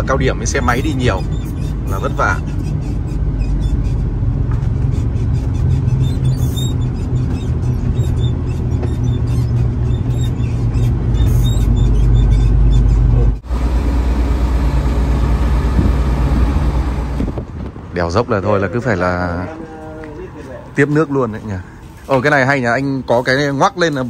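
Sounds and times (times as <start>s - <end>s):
diesel engine drone: 0.0s - 23.2s
road noise: 0.0s - 24.0s.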